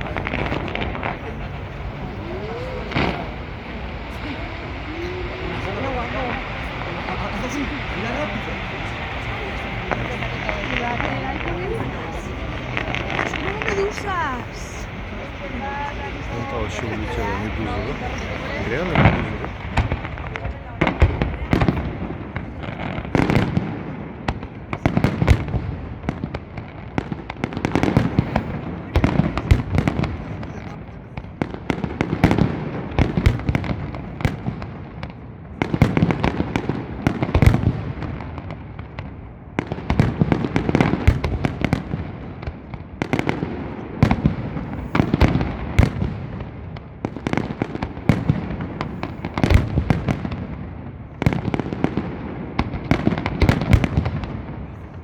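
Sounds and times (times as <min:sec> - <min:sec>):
firework bangs and crackles: 0:00.0 - 0:55.0.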